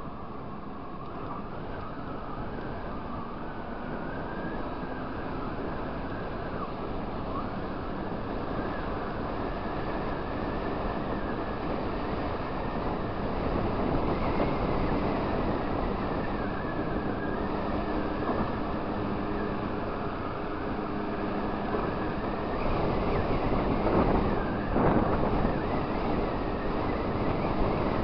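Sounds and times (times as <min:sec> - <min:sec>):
scooter engine hum: 0:00.0 - 0:28.0
wind on microphone: 0:01.3 - 0:28.0.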